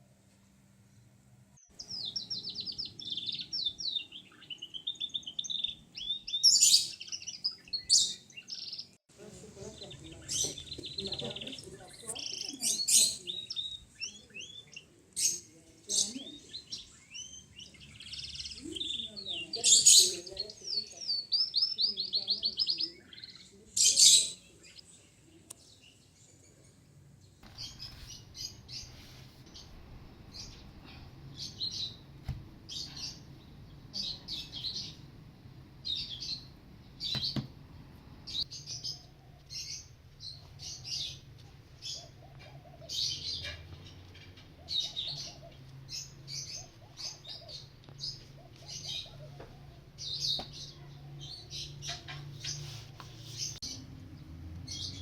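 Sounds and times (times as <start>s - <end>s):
small birds chirping: 0.9s - 55.0s.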